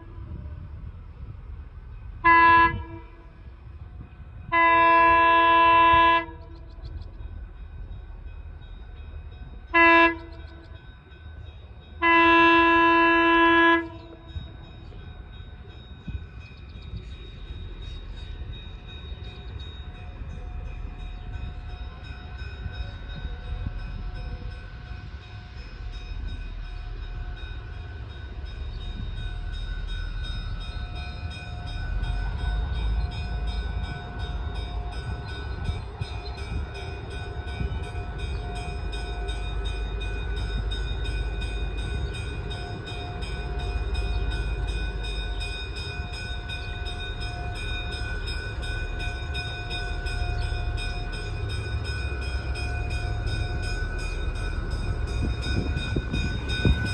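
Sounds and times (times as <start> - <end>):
diesel locomotive engine rumble: 0.0 - 56.9.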